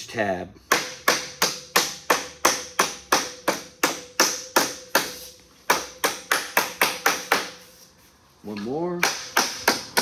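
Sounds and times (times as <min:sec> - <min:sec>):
rubber mallet striking sheet metal: 0:00.6 - 0:07.7, 0:09.0 - 0:10.0.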